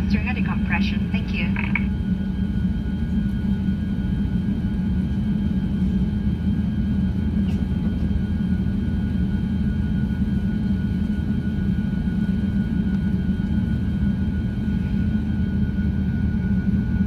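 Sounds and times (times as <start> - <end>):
aircraft cabin rumble: 0.0 - 17.0
faint engine whine: 0.0 - 17.0.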